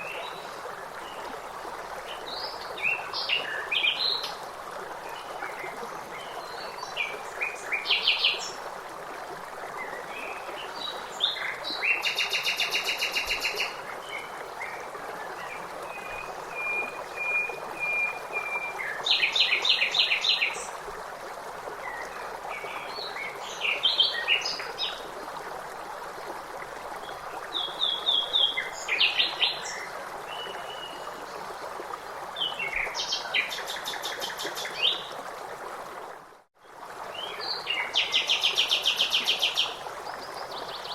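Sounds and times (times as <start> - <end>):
flowing water: 0.0 - 40.9.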